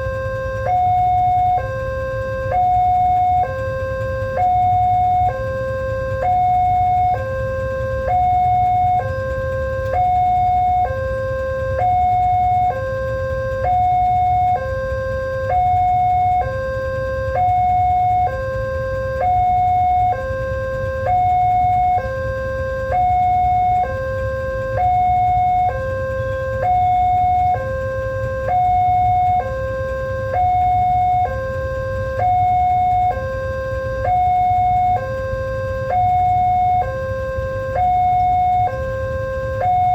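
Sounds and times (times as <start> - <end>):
two-tone level crossing alarm: 0.0 - 39.9.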